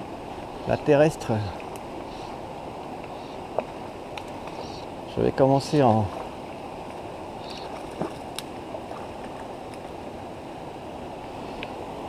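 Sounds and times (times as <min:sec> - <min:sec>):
river flowing over rocks: 0:00.0 - 0:12.0.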